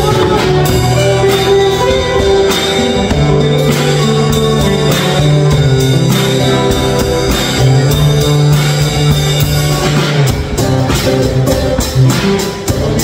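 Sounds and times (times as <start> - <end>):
acoustic guitars strumming: 0.0 - 13.0
drum and cymbal hits: 0.0 - 13.0.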